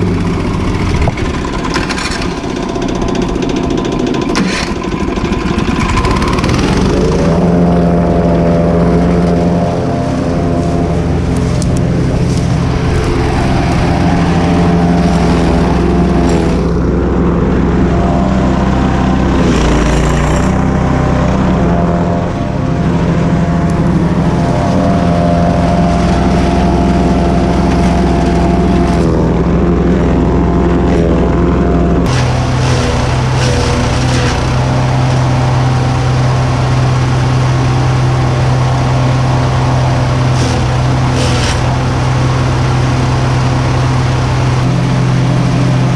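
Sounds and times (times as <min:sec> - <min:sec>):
wood chipper engine running: 0:00.0 - 0:45.9.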